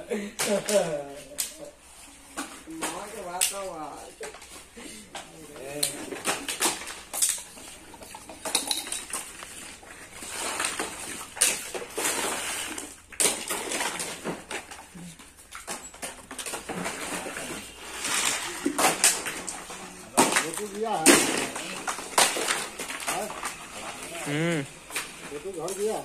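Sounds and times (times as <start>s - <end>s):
hard plastic pieces clattering: 2.4s - 24.2s.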